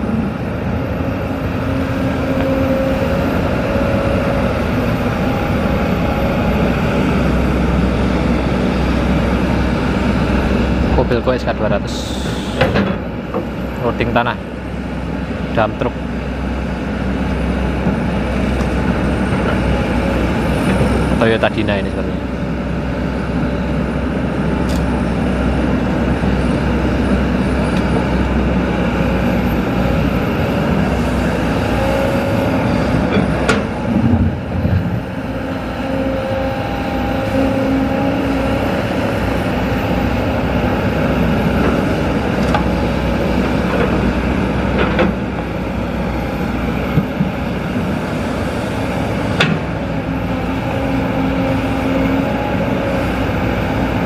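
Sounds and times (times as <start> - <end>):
hydraulic whine: 0.0 - 21.2, 22.0 - 54.0
excavator diesel engine: 0.0 - 54.0.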